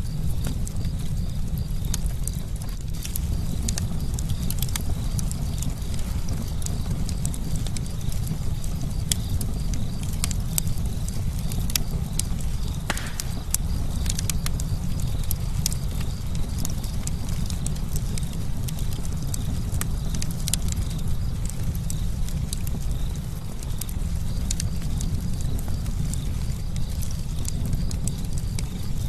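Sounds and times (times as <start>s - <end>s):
campfire crackling and popping: 0.0s - 29.0s
low rumble of flames: 0.0s - 29.0s.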